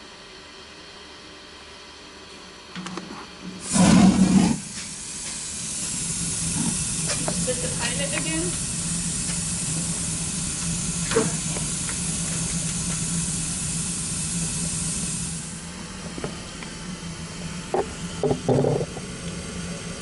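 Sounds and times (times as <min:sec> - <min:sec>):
gas water heater hissing: 0:02.9 - 0:20.0.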